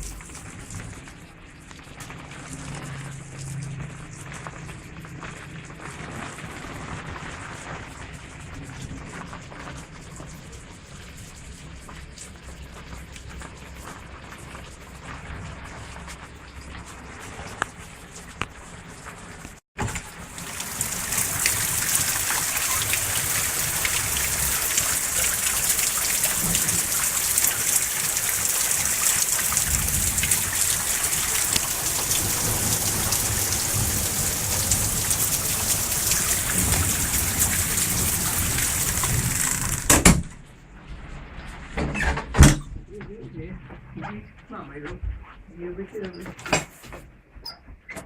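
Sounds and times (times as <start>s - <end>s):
heavy rain pouring: 0.0s - 40.1s.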